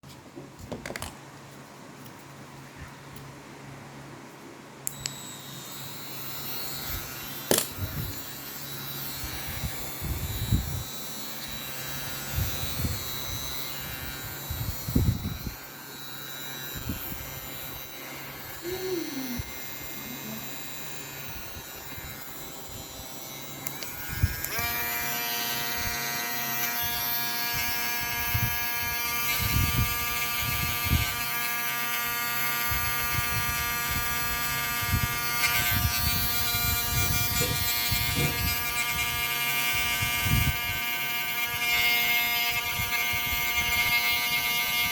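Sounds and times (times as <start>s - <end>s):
mini grinder motor whining: 4.9s - 44.9s.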